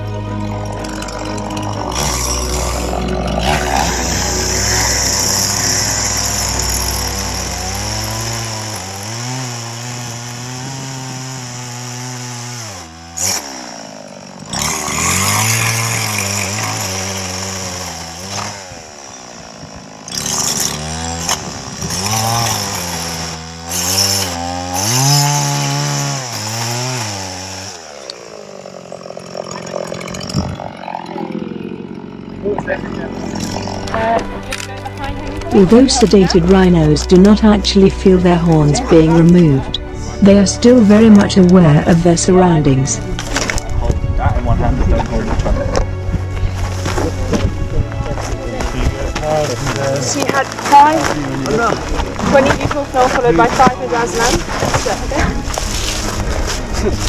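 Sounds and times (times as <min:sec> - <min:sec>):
chainsaw revving: 0:00.0 - 0:43.7, 0:44.9 - 0:57.0.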